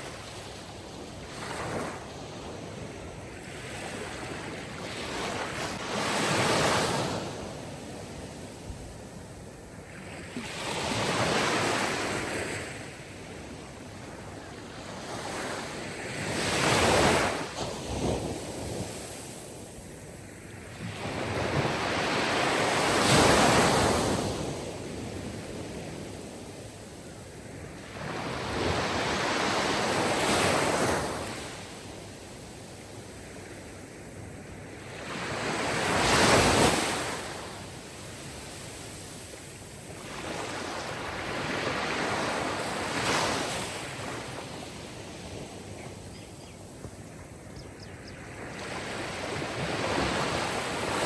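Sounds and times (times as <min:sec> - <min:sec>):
sea waves on shore: 0:00.0 - 0:51.0.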